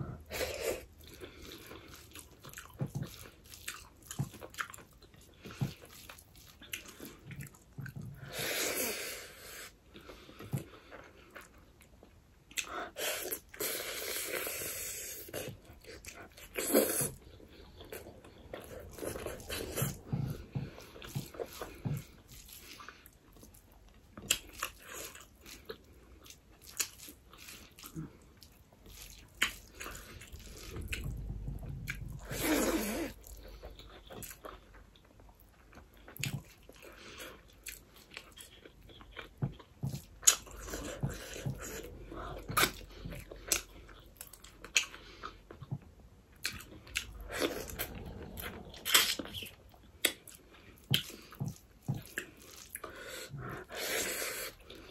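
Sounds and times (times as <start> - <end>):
person chewing and smacking: 0.0 - 8.3, 9.6 - 54.9.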